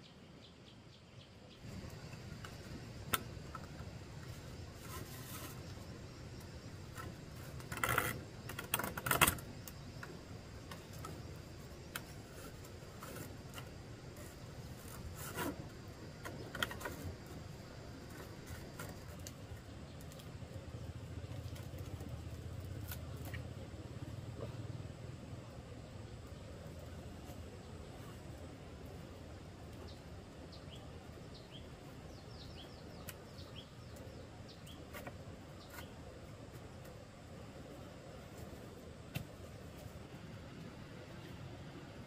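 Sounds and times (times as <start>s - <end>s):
low steady background: 0.0s - 42.0s.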